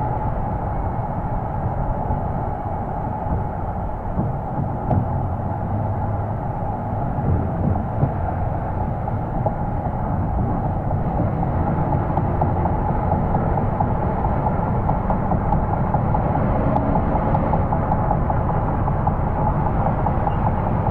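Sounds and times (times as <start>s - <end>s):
car exhaust drone while driving: 0.0s - 20.9s
road and air noise: 0.0s - 20.9s.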